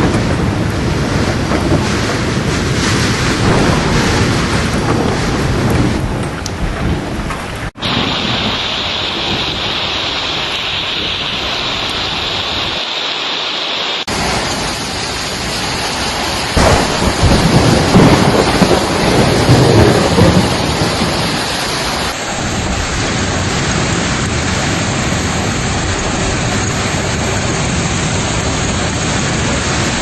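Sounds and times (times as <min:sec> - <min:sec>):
low rumbling: 0:00.0 - 0:12.7, 0:16.4 - 0:30.0
hail and rain pelting: 0:00.0 - 0:30.0.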